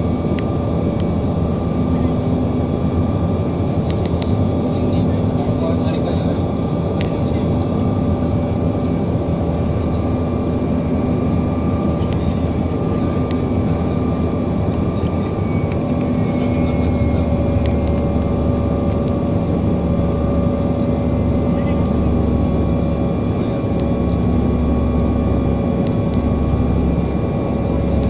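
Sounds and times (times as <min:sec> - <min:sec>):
airliner cabin engine drone: 0:00.0 - 0:28.0.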